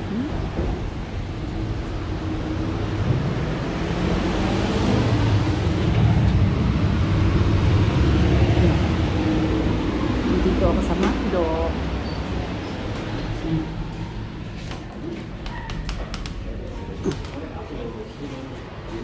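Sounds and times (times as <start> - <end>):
motor vehicle running: 0.0 - 15.4.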